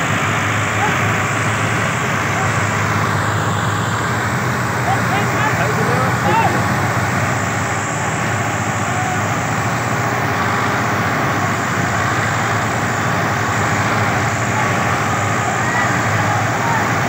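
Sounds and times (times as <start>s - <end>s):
tractor engines droning: 0.0s - 17.0s.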